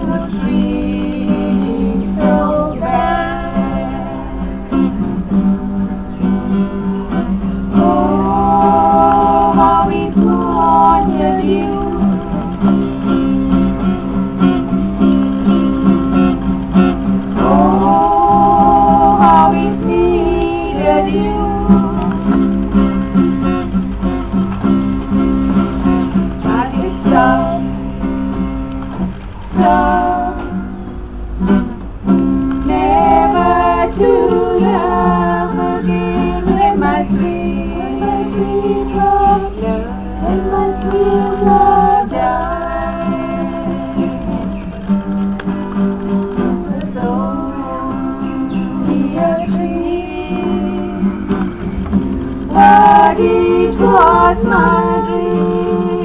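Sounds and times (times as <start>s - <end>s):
acoustic guitars playing: 0.0s - 56.0s
women singing in harmony: 0.0s - 56.0s.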